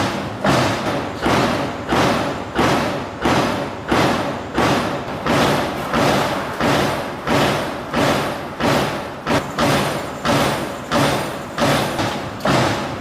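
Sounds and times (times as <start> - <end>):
heavy rhythmic thuds: 0.0 - 13.0.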